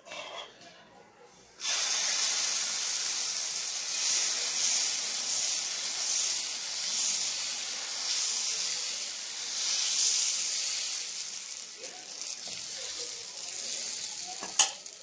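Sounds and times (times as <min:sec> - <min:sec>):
batter sizzling on hot griddle: 0:01.6 - 0:15.0.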